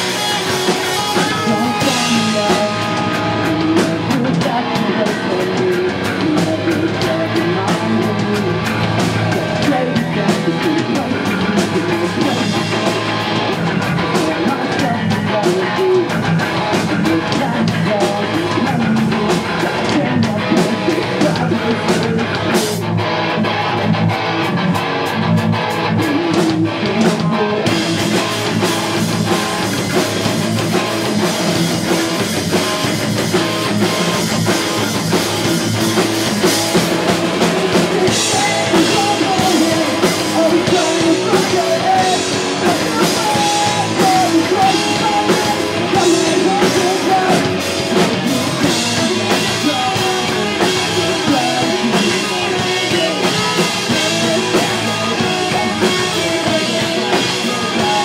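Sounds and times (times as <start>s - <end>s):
bass guitar: 0.0s - 58.0s
drum kit: 0.0s - 58.0s
electric guitars: 0.0s - 58.0s
rock band playing live: 0.0s - 58.0s.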